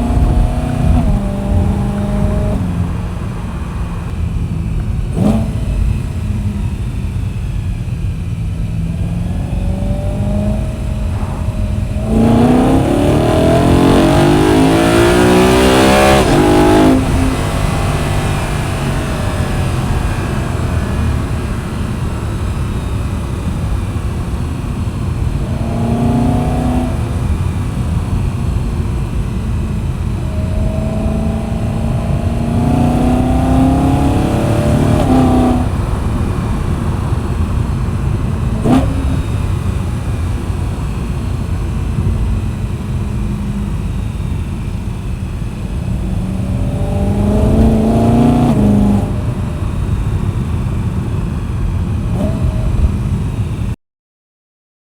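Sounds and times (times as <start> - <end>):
exhaust crack: 0.0 - 53.7
car engine accelerating: 0.0 - 53.8.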